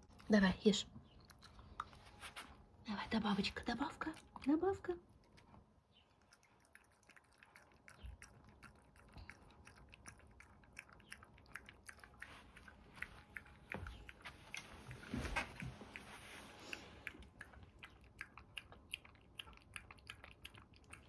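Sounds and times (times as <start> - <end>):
dog licking and lapping: 3.3 - 21.0.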